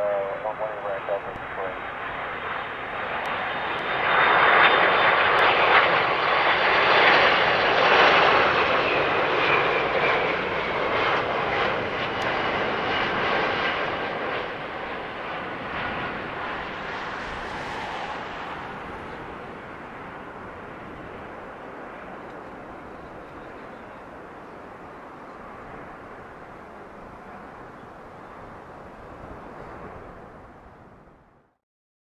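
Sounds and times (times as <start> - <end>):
jet airliner roar: 0.0 - 31.4.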